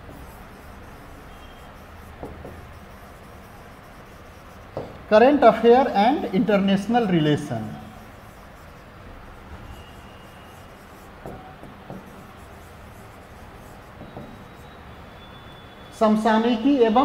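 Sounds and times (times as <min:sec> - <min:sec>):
chalk tapping: 0:00.0 - 0:14.9
chalk scratching on chalkboard: 0:00.0 - 0:15.0.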